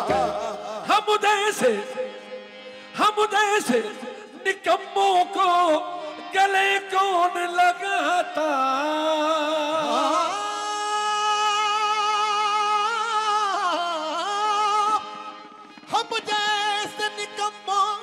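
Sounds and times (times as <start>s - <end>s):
harmonium drone: 0.0s - 18.0s
man singing: 0.0s - 18.0s.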